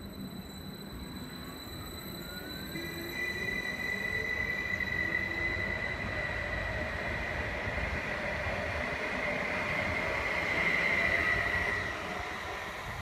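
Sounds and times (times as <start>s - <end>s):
high-pitched train whine: 0.0s - 13.0s.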